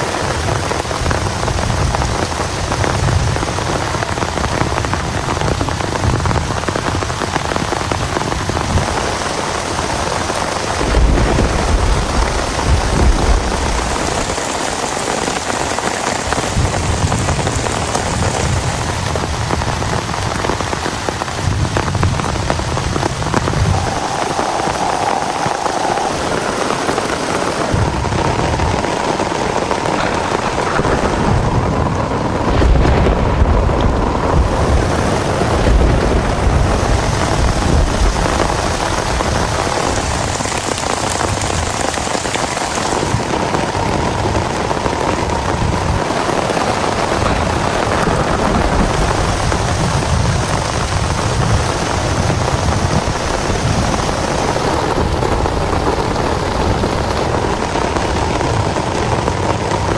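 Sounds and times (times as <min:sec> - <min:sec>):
heavy rain pouring: 0:00.0 - 0:59.9
thunder rumbling: 0:00.0 - 0:59.9.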